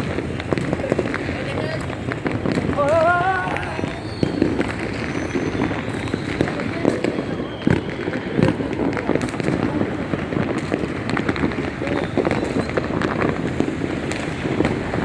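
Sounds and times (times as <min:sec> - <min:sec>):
fireworks and firecrackers banging: 0:00.0 - 0:15.0.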